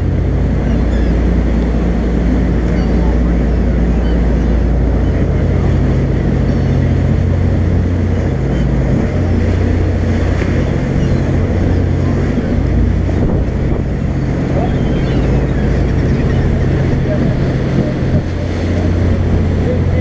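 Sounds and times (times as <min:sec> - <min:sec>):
boat engine droning: 0:00.0 - 0:20.0
water rushing: 0:00.0 - 0:20.0
wind: 0:00.0 - 0:20.0.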